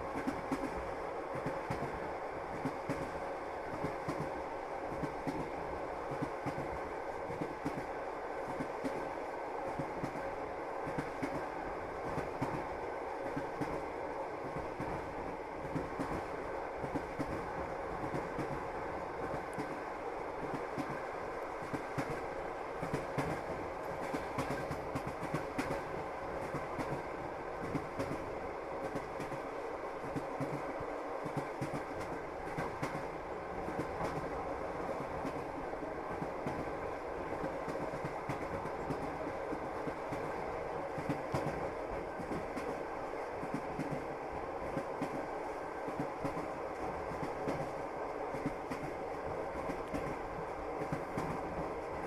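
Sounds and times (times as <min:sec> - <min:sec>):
train wheels clattering on rails: 0:00.0 - 0:52.0.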